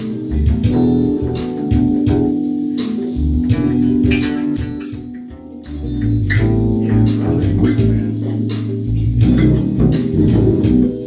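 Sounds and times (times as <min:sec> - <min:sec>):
electric bass guitar playing: 0:00.0 - 0:11.0.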